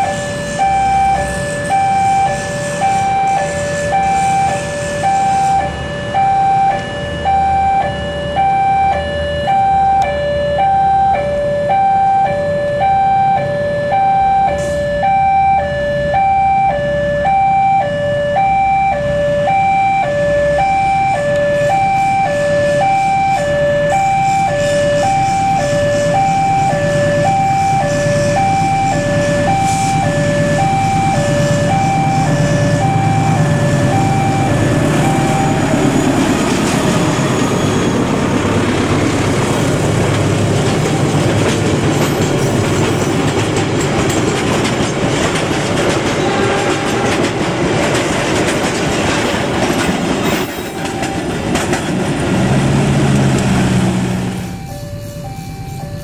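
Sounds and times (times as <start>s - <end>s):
freight train rumbling over rails: 0.0s - 12.7s, 19.0s - 56.0s
two-tone crossing alarm: 0.0s - 56.0s.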